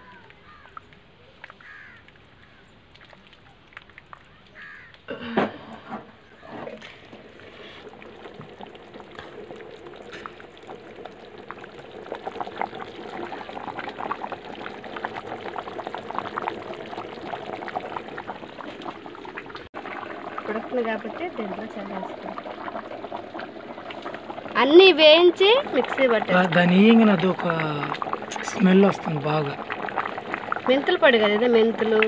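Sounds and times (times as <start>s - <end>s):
curry bubbling in a pot: 0.0s - 4.9s, 6.0s - 32.0s.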